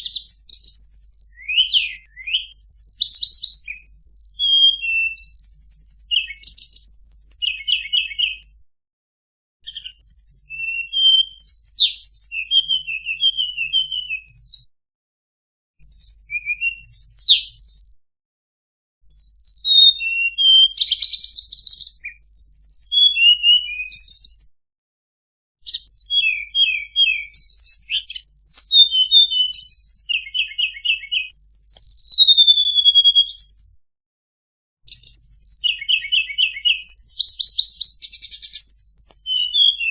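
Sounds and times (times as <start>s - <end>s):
bird singing chirps and trills: 0.0s - 8.6s, 9.6s - 14.7s, 15.8s - 18.0s, 19.1s - 24.5s, 25.6s - 33.8s, 34.9s - 39.9s.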